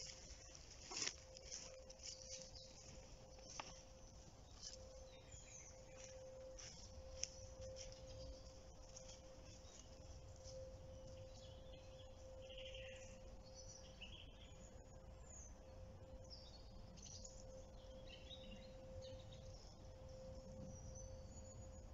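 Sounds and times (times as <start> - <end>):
faint birdsong: 0.0 - 21.9
steady faint tone: 0.0 - 21.9.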